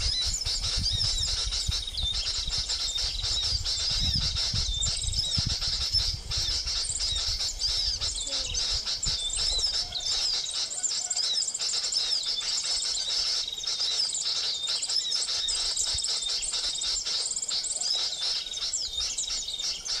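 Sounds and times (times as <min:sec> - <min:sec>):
small birds twittering: 0:00.0 - 0:20.0.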